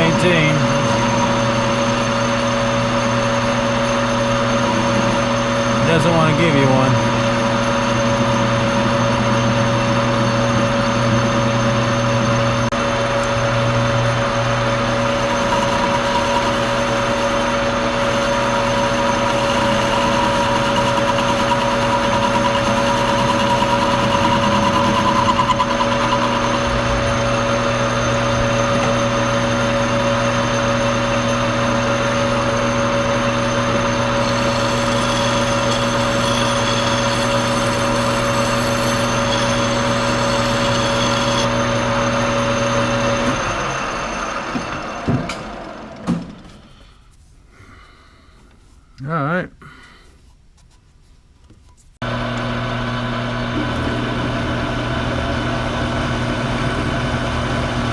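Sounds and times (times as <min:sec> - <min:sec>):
lathe gear whine: 0:00.0 - 0:46.8, 0:52.0 - 0:57.9.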